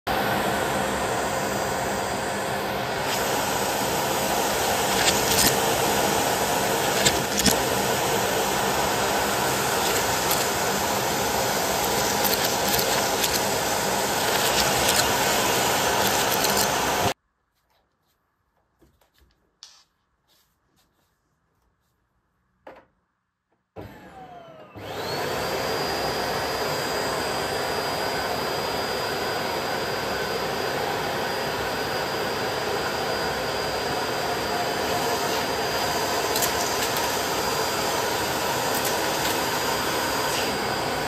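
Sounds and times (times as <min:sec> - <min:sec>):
vacuum cleaner running: 0:00.1 - 0:17.2, 0:23.8 - 0:41.0.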